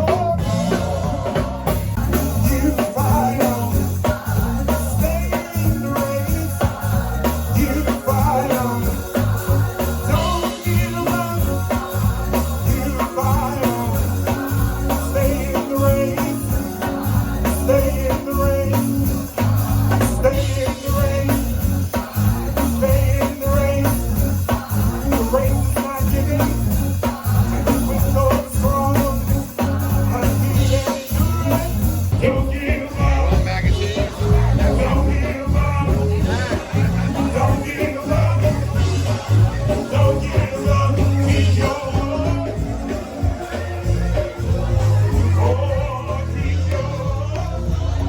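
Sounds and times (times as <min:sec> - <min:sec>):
rock music with singing: 0:00.0 - 0:48.0.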